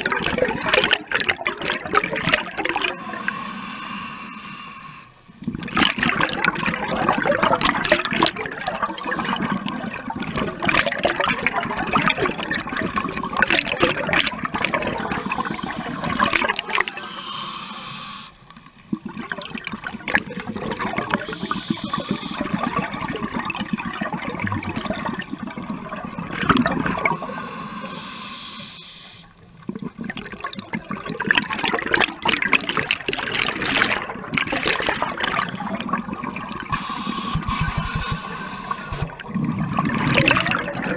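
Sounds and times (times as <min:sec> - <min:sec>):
underwater exhaust bubbles gurgling: 0:00.0 - 0:40.9.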